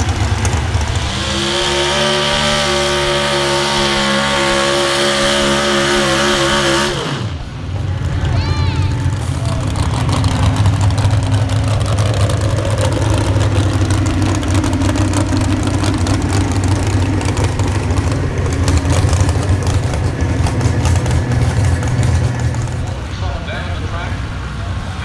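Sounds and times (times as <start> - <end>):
loud vehicle engine running: 0.0 - 25.0.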